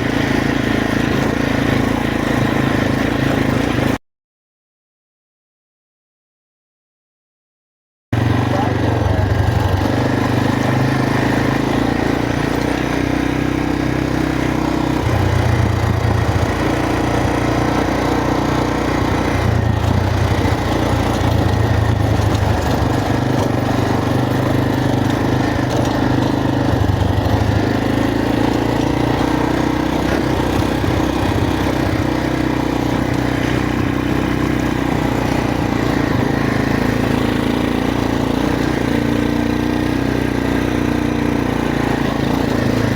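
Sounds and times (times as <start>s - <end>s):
motorcycle engine running: 0.0s - 4.0s, 8.2s - 42.9s.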